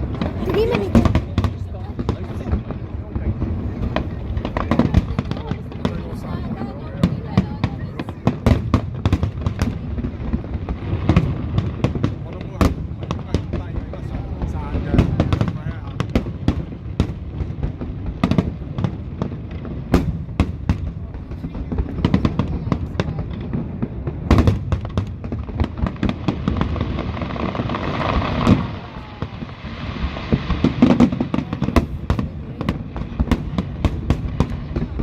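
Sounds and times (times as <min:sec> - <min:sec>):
fireworks bangs: 0:00.0 - 0:35.0
fireworks crackling: 0:00.0 - 0:35.0.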